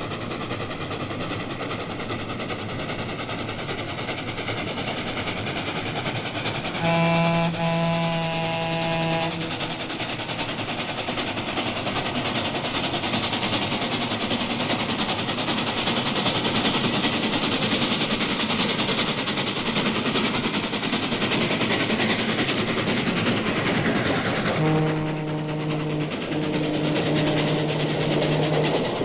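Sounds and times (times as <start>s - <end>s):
train rumbling and clattering past: 0.0s - 29.0s.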